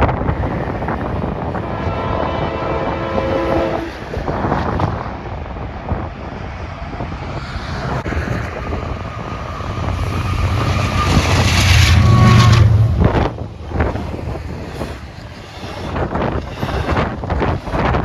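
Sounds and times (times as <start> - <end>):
diesel train engine drone: 0.0 - 18.0.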